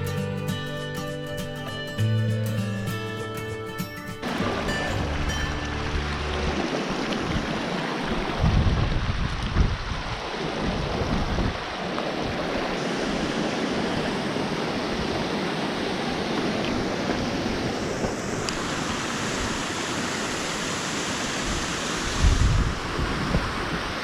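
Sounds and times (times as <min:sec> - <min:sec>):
rushing water: 0:02.7 - 0:24.0
wind rumbling on microphone: 0:04.4 - 0:24.0.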